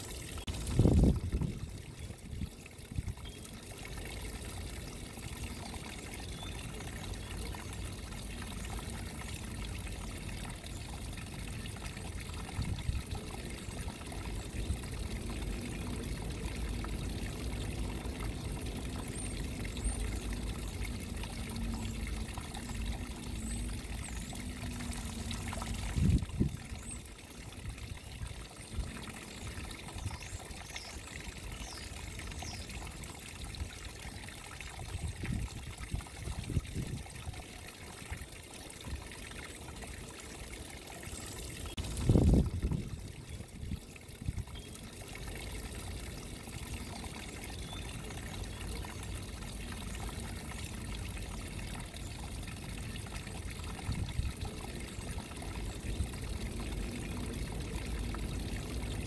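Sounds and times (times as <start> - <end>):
water trickling over stone: 0.0 - 59.0.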